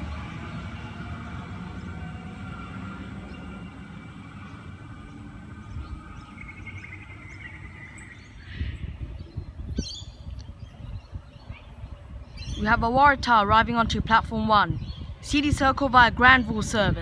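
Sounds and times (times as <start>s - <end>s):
birds chirping: 0.0s - 16.7s
electric train humming: 0.0s - 17.0s
wind buffeting microphone: 0.0s - 17.0s.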